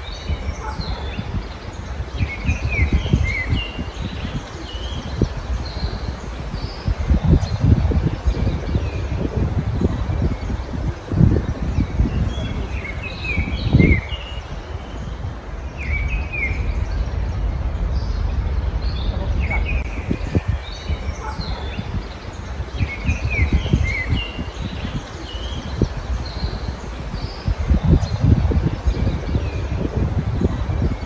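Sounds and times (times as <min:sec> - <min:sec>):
low background rumble: 0:00.0 - 0:31.0
songbirds chirping: 0:00.0 - 0:31.0.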